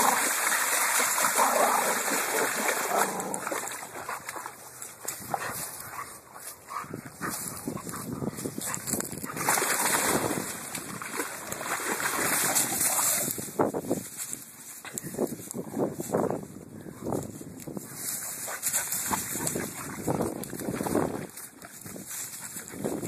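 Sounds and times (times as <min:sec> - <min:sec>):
dogs splashing through water: 0:00.0 - 0:13.7, 0:18.2 - 0:23.0.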